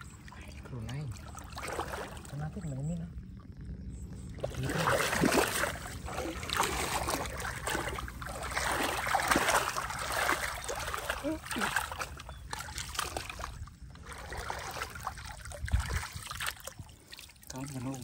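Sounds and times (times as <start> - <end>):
muddy water splashing: 0.0 - 18.0.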